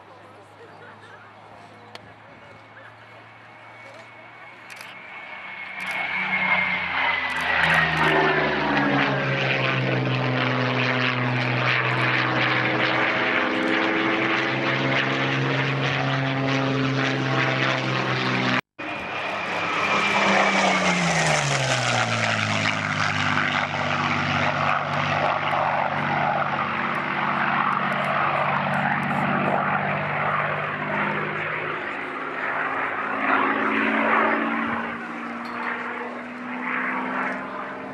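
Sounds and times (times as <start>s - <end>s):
propeller plane flying past: 0.0s - 37.9s.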